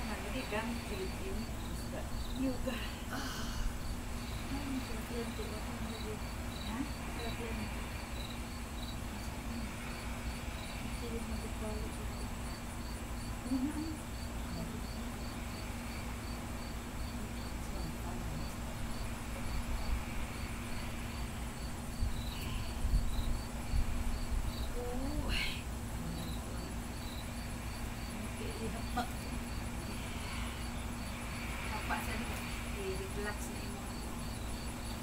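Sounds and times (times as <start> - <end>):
crickets chirping: 0.0 - 35.0
low steady hum: 0.0 - 35.0.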